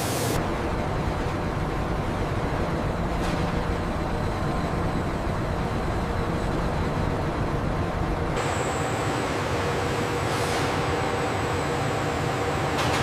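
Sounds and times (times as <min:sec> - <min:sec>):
industrial machinery rumble and hiss: 0:00.0 - 0:13.0.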